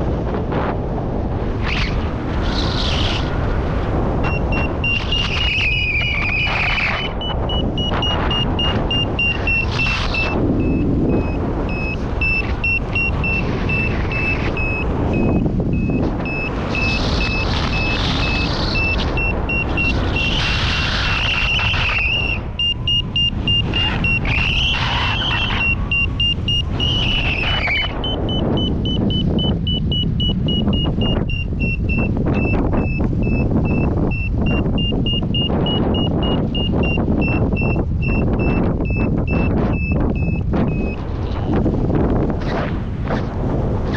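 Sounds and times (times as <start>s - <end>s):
wind rushing on microphone: 0.0s - 43.9s
variometer short high beeps: 4.2s - 20.5s, 21.1s - 41.6s.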